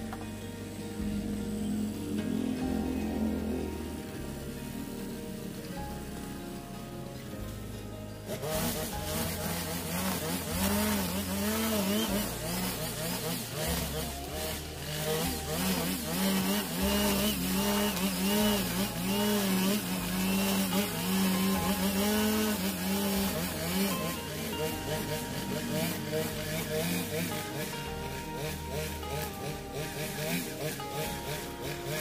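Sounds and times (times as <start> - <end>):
background music with bass line: 0.0 - 32.0
brush cutter cutting grass: 0.0 - 32.0.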